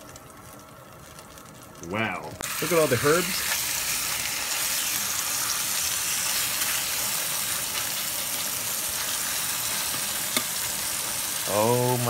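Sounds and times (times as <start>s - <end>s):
steak sizzling in a frying pan: 0.6s - 12.0s.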